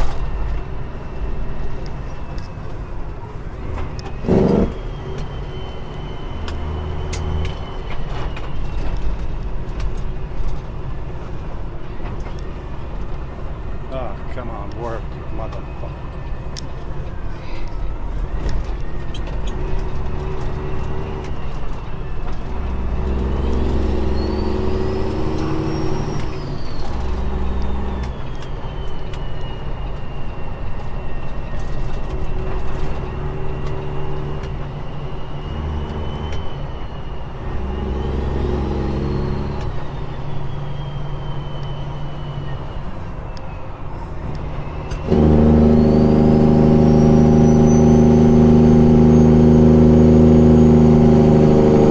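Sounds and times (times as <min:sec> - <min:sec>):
thin whistle: 0:00.0 - 0:10.6, 0:17.2 - 0:51.9
diesel engine with engine brake: 0:00.0 - 0:51.9.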